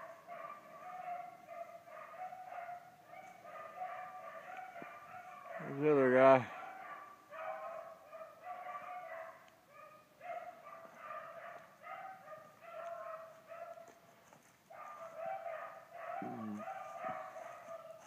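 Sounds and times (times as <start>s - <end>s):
hunting dogs baying: 0.0s - 14.0s, 14.7s - 18.0s.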